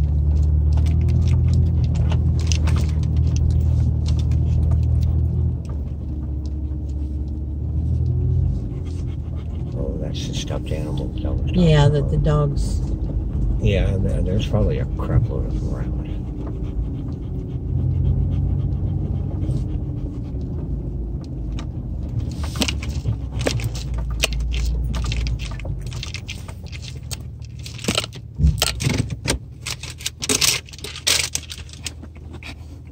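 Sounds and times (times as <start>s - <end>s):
engine and road rumble: 0.0s - 32.9s
clicking and jangling rattles: 0.3s - 11.1s, 16.0s - 32.9s.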